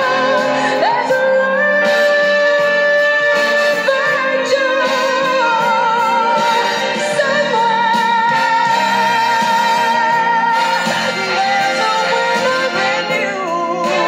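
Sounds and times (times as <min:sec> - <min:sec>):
song accompaniment: 0:00.0 - 0:14.0.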